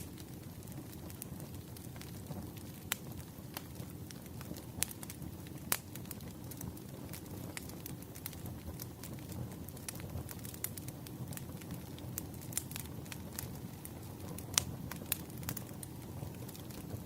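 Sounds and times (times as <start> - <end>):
firewood crackling and popping: 0.0 - 17.0
rumble of flames: 0.0 - 17.0.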